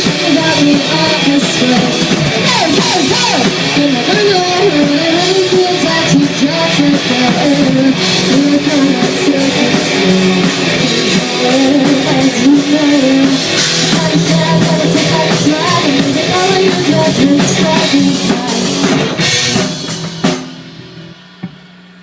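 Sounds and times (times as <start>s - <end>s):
rock band playing live: 0.0s - 21.8s
drum kit: 0.0s - 22.0s
electric guitar: 0.0s - 22.0s.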